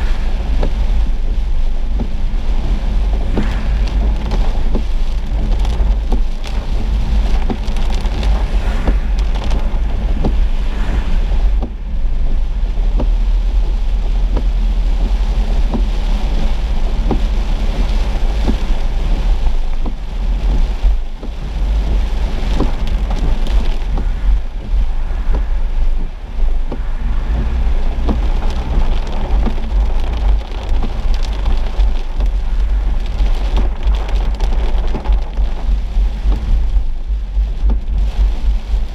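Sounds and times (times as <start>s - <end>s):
car driving on wet road: 0.0s - 38.9s
rain on car roof: 0.0s - 38.9s.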